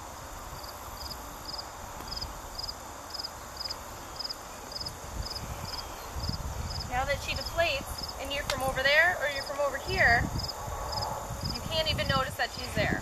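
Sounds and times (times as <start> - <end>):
insect chirping: 0.0 - 12.7
low rumble of wind: 0.0 - 13.0.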